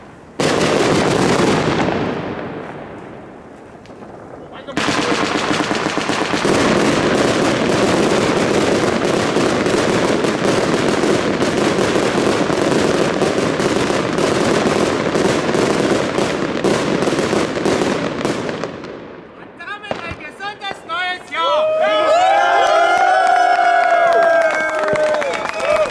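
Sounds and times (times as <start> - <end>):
firework battery crackling bursts: 0.0 - 21.5.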